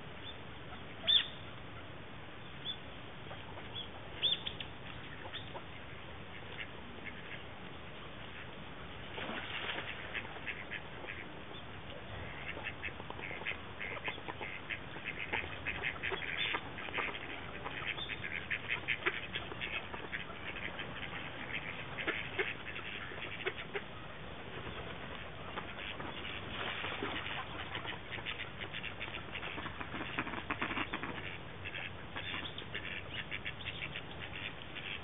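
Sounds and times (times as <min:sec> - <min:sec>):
ducks quacking and calling: 0:00.7 - 0:01.9, 0:02.6 - 0:07.5, 0:09.3 - 0:35.0.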